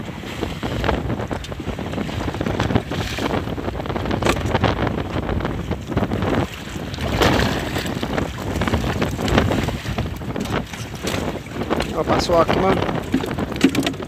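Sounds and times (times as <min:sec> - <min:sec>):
open sea rushing: 0:00.0 - 0:14.0
wind buffeting microphone: 0:00.0 - 0:14.0.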